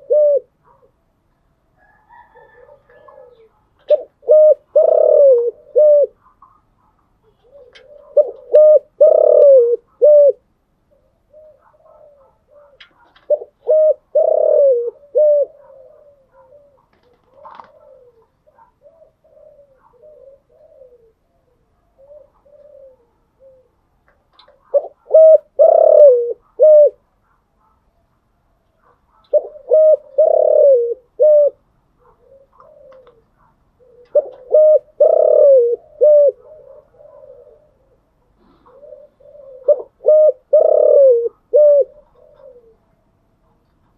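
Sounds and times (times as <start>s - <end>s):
dove cooing: 0.0s - 0.9s, 1.8s - 27.1s, 28.8s - 43.9s.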